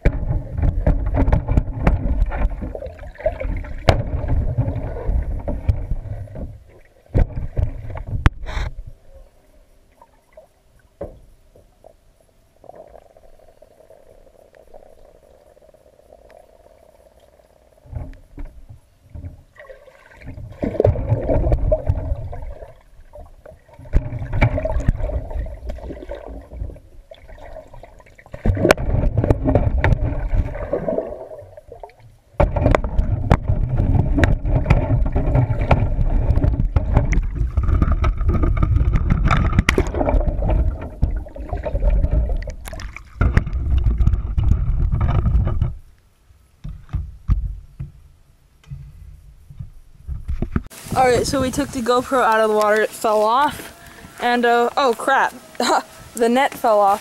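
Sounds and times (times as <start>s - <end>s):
water sloshing and gurgling: 0.0s - 46.0s, 48.7s - 57.0s
faint steady hum: 0.0s - 57.0s.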